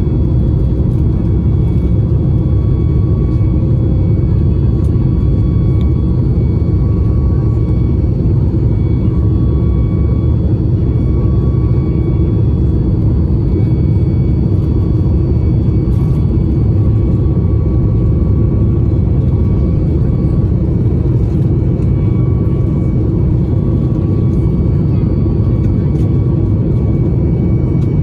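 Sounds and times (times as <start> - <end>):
faint steady whines: 0.0 - 28.0
jet engines and airflow rumble: 0.0 - 28.0.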